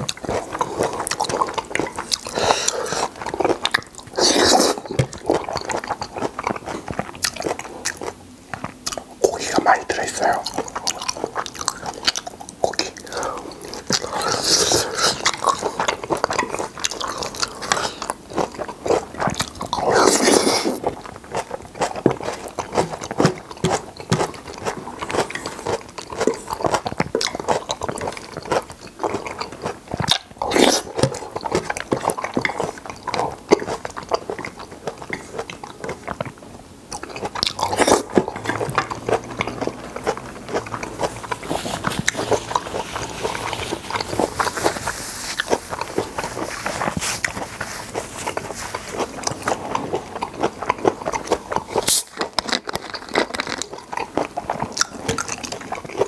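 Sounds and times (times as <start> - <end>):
man chewing food: 0.0 - 56.0.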